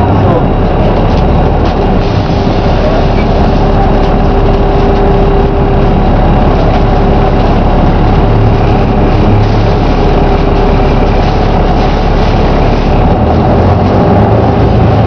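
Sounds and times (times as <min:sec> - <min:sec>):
bus diesel engine running: 0:00.0 - 0:15.0
road noise: 0:00.0 - 0:15.0
steady whine: 0:00.0 - 0:15.0.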